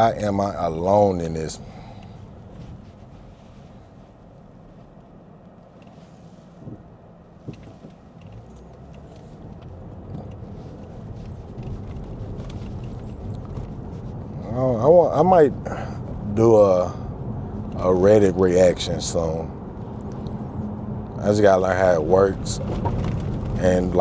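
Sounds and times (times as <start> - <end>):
road and tyre noise in car: 0.0 - 24.0.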